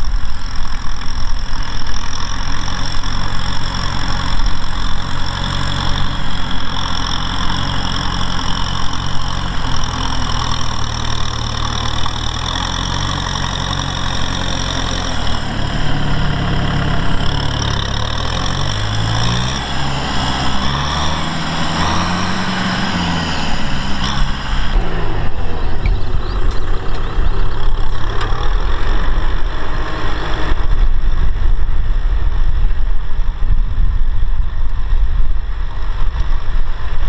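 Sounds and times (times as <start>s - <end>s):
blade working dry soil: 0.0s - 33.8s
tractor diesel engine running: 0.0s - 37.0s.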